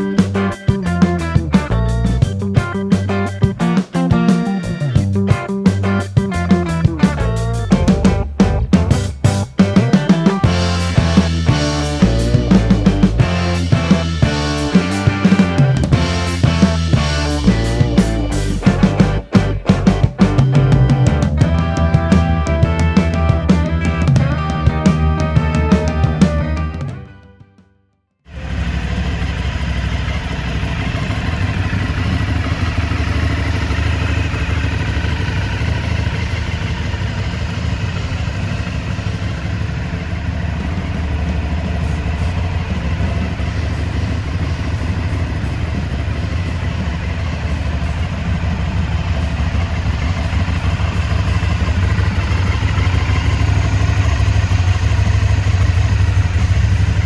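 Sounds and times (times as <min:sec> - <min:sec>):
motorcycle engine idling: 0:00.0 - 0:26.6, 0:28.3 - 0:57.0.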